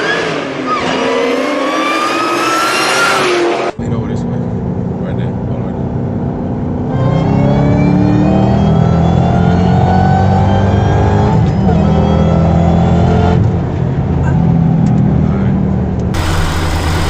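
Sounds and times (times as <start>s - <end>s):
car engine accelerating hard: 0.9s - 17.0s.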